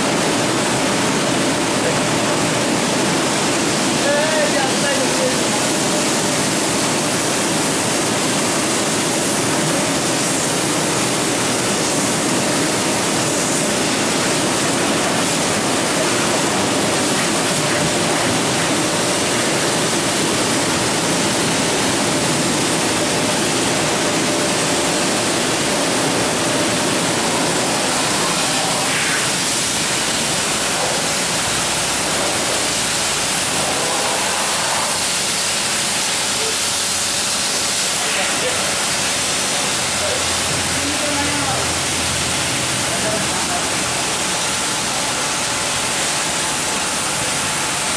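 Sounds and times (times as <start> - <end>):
water jet spraying on car: 0.0 - 47.9.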